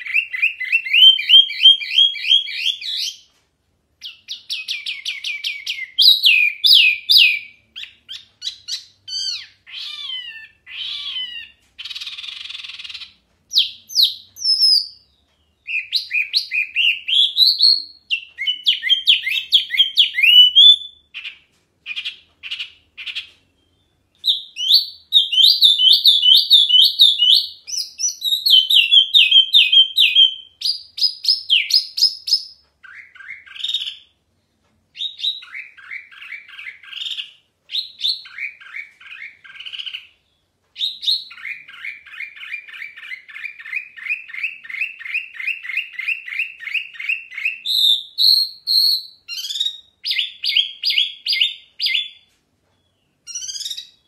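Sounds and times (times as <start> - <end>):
songbird singing trills: 4.0 - 34.1, 35.0 - 54.0.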